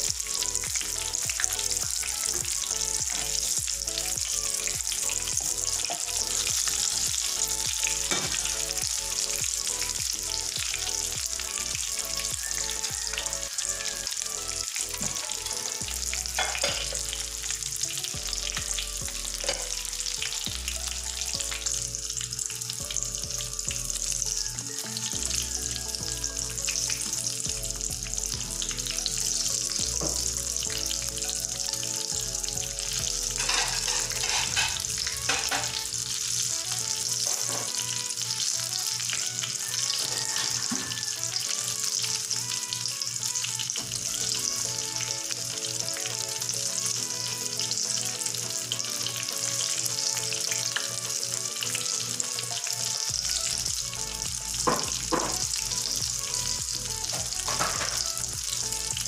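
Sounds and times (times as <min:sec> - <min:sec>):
oil sizzling and popping: 0:00.0 - 0:59.0.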